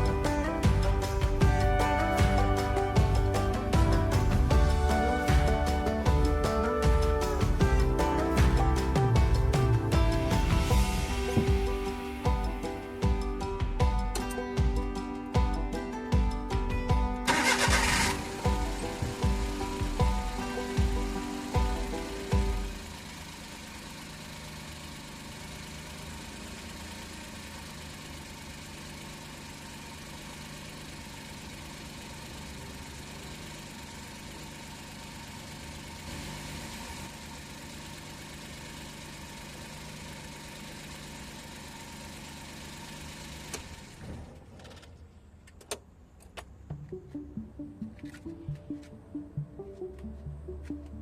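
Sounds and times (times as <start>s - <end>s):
truck engine idling: 0.0s - 51.0s.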